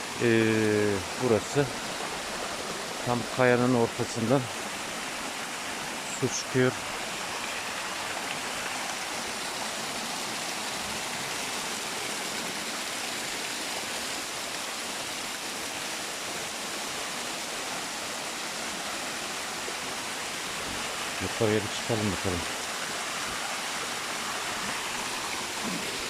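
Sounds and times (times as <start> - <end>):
spring water gushing: 0.0 - 26.0.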